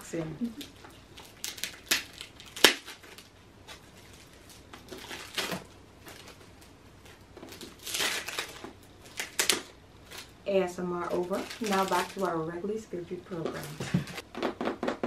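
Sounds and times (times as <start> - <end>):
plastic wrapping crinkling: 0.4 - 14.5.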